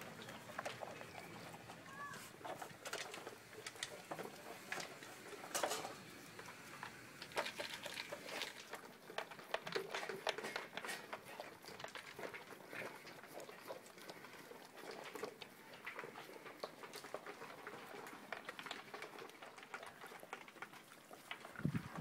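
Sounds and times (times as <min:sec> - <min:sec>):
dog chewing food: 0:00.0 - 0:22.0.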